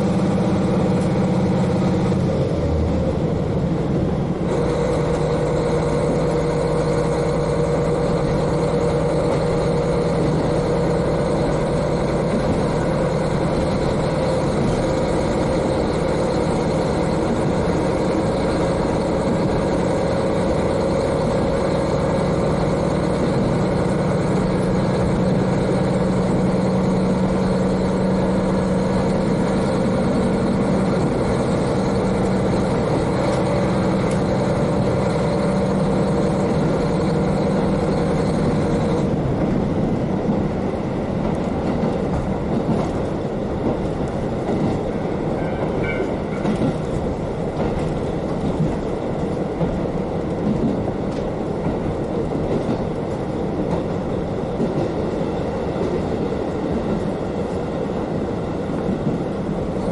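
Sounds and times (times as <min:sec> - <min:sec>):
railcar diesel engine running: 0:00.0 - 0:59.9.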